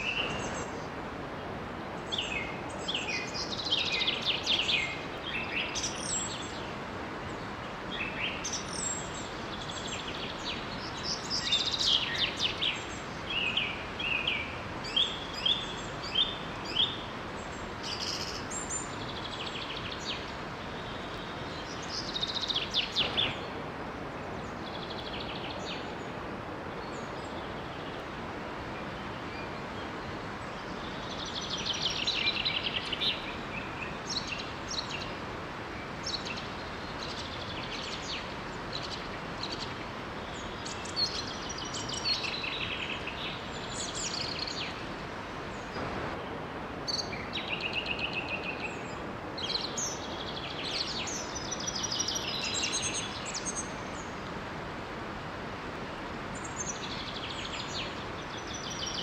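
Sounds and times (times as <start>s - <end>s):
songbirds chirping: 0.0s - 59.0s
waterfall flowing water: 0.0s - 59.0s.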